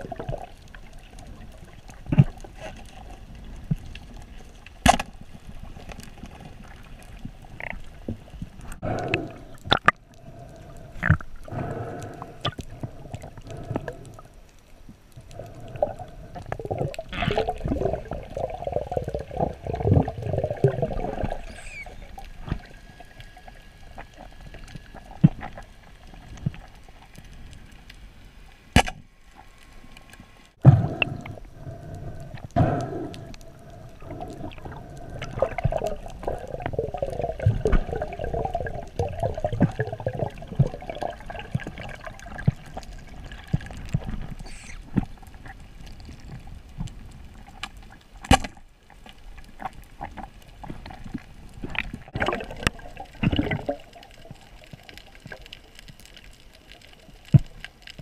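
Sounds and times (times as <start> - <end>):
underwater gurgling water: 0.0 - 58.0.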